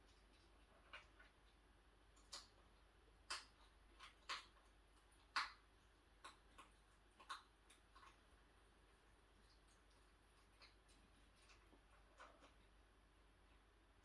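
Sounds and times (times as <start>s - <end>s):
hedgehog crunching food: 0.0s - 14.0s.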